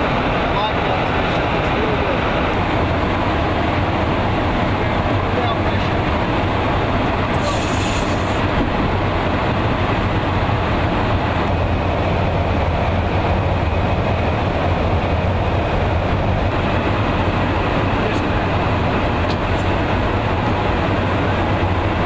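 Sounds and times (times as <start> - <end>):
aircraft cabin hum: 0.0 - 22.0
rushing air: 0.0 - 22.0.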